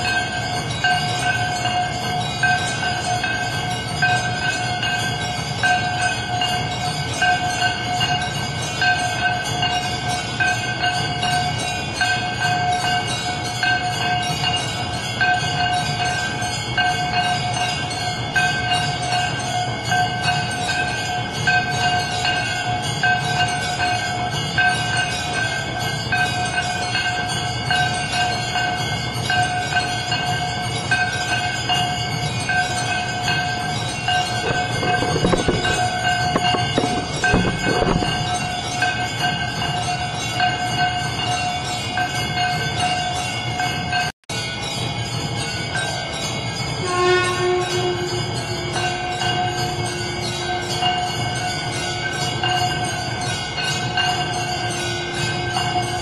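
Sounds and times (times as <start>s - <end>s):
bells ringing: 0.0s - 56.0s.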